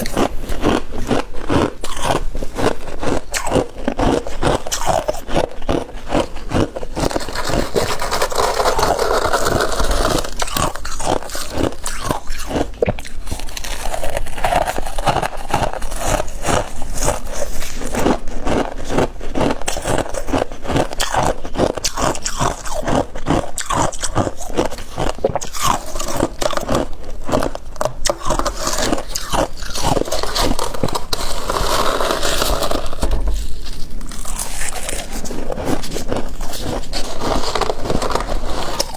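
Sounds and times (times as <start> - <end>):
crunching frost in mouth: 0.0 - 38.9.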